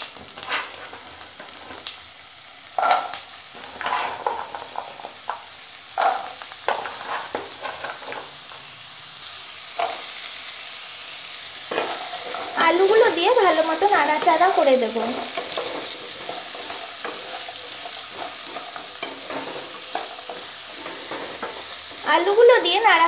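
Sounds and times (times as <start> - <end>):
potatoes sizzling in hot oil: 0.0 - 23.0
spatula scraping and knocking pan: 0.1 - 1.8, 2.8 - 8.7, 9.8 - 10.1, 11.7 - 23.0.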